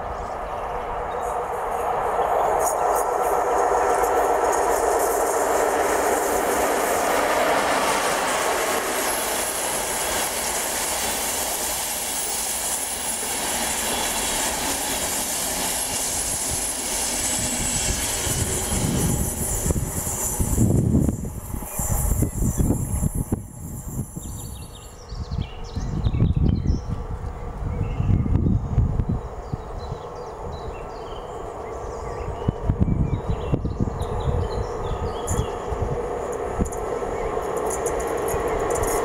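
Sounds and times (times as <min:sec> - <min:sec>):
train passing at speed: 0:00.0 - 0:39.0.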